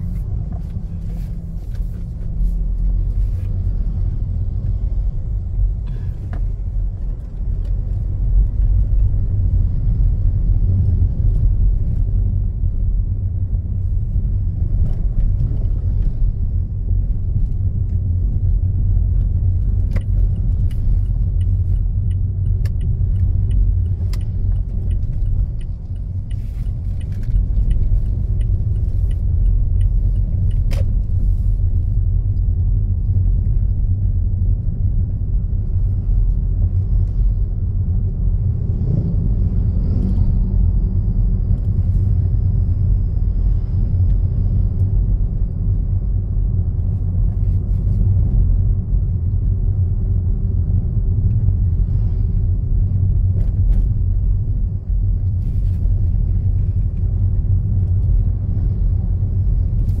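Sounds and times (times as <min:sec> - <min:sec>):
car interior road rumble: 0:00.0 - 1:00.0.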